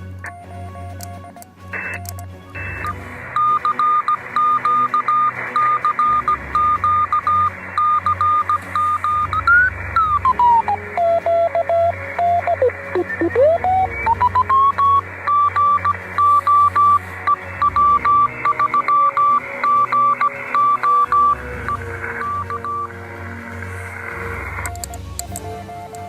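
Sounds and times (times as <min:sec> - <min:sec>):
morse code tone: 0:00.2 - 0:26.0
radio receiver hiss: 0:01.8 - 0:26.0.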